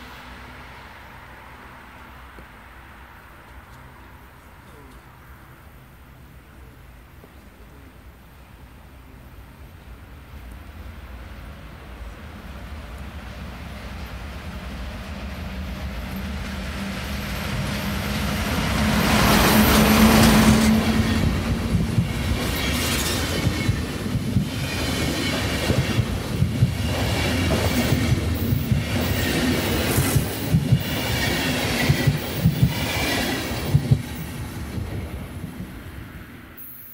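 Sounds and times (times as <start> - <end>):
passenger train passing: 0.0 - 36.9.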